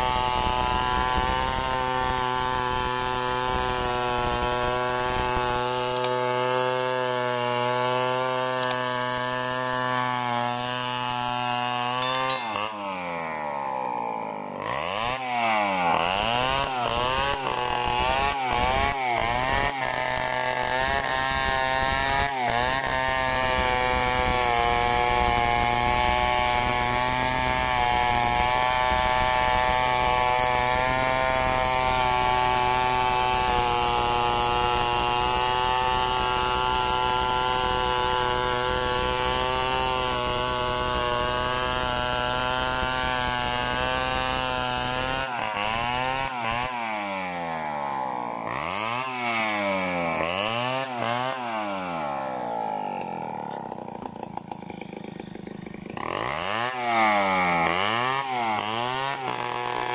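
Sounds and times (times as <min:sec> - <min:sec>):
chainsaw cutting log: 0:00.0 - 0:12.7, 0:13.6 - 0:59.9.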